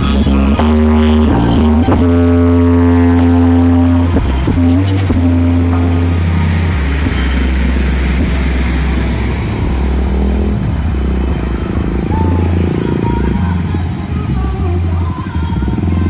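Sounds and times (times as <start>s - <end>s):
trucks driving past: 0.0s - 16.0s.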